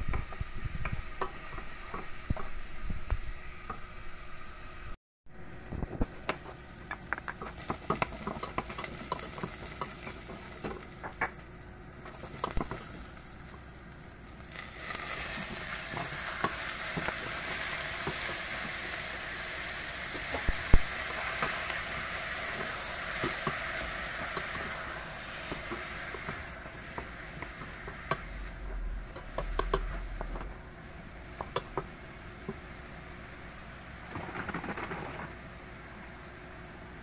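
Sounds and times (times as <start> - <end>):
food sizzling: 0.0 - 5.0, 5.7 - 35.4.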